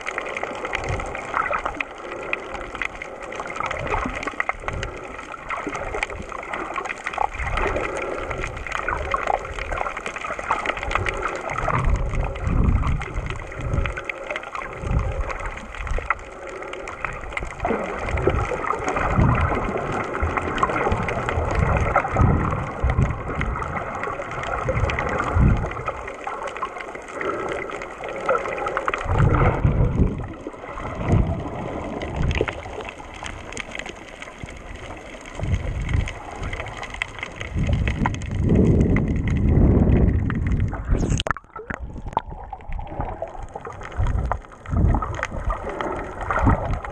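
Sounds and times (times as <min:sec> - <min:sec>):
underwater water sloshing: 0:00.0 - 0:46.9.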